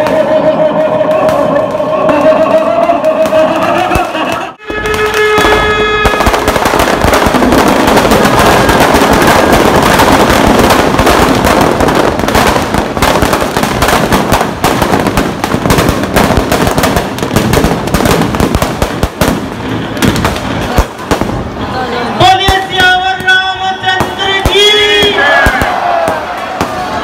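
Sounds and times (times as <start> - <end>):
firecrackers crackling: 0.0 - 27.0.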